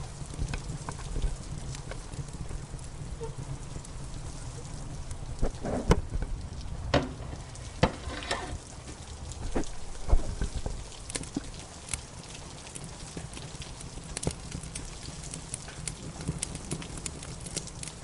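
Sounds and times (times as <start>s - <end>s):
steady rain: 0.0s - 18.0s
wood fire crackling and popping: 0.0s - 18.0s.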